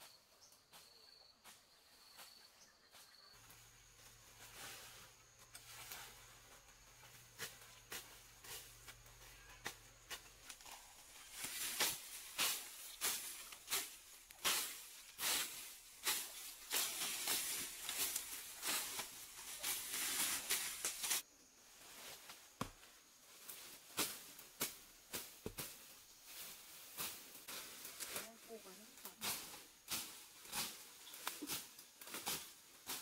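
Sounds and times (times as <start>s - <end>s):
dry leaves and grass rustling: 1.5s - 33.0s.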